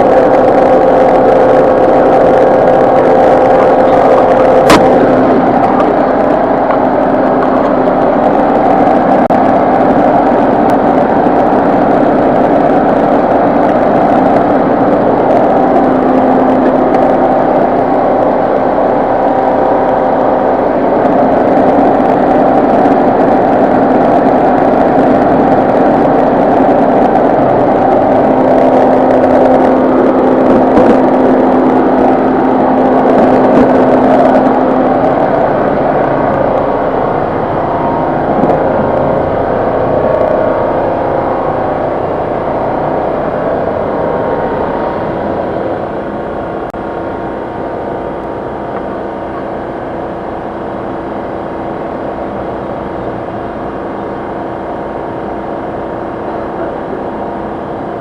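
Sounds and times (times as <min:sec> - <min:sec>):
car engine running: 0:00.0 - 0:58.0
hum tone: 0:00.0 - 0:58.0.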